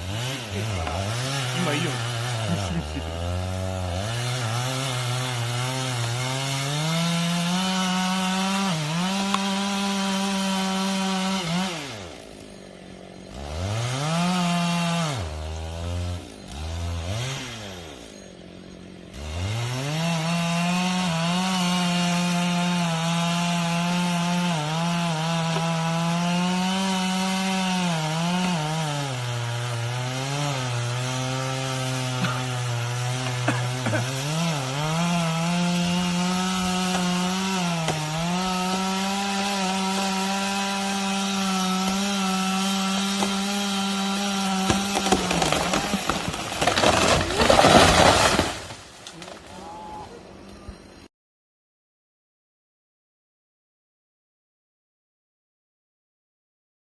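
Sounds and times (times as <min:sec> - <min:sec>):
chainsaw cutting tree trunk: 0:00.0 - 0:50.0.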